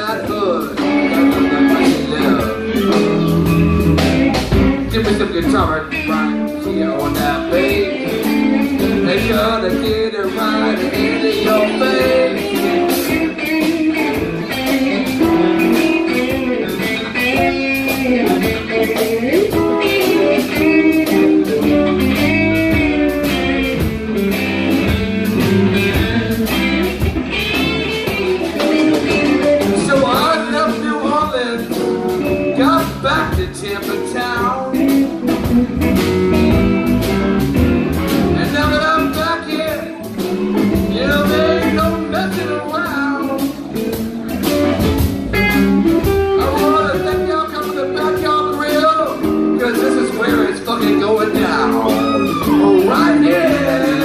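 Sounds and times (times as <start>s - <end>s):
bass: 0.0s - 54.0s
electric guitar: 0.0s - 54.0s
steady drum beat: 0.0s - 54.0s.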